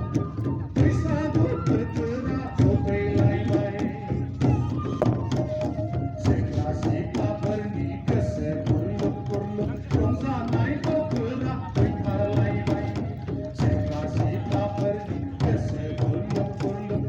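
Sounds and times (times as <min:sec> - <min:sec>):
drums: 0:00.0 - 0:17.0.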